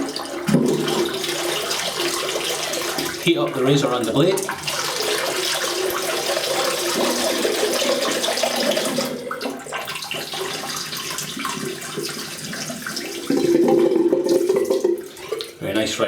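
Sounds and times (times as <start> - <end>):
water running from a tap: 0.0 - 16.0
water splashing: 0.0 - 16.0.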